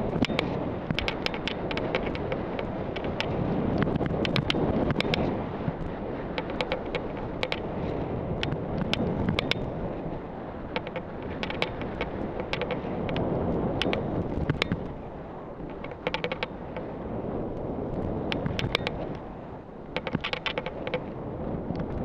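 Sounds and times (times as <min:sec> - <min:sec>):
sharp clicks and ticks: 0:00.0 - 0:09.7, 0:10.7 - 0:15.0, 0:15.6 - 0:16.9, 0:18.0 - 0:19.2, 0:19.9 - 0:22.0
wind buffeting microphone: 0:00.0 - 0:22.0.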